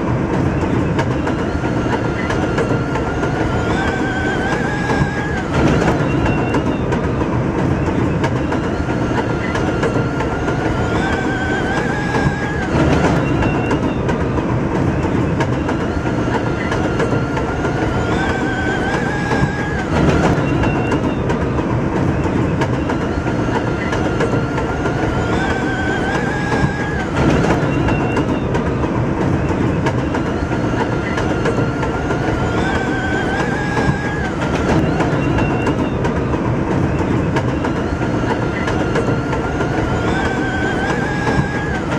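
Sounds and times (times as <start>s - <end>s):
train jolt: 0.0s - 41.9s
train motor whine: 0.0s - 41.9s
train wheels rumbling on rails: 0.0s - 41.9s.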